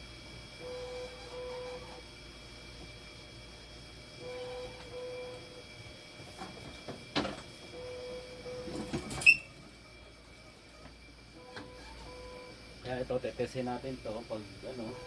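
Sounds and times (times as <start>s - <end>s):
faint high whine: 0.0s - 15.0s
machine hum: 0.0s - 15.0s.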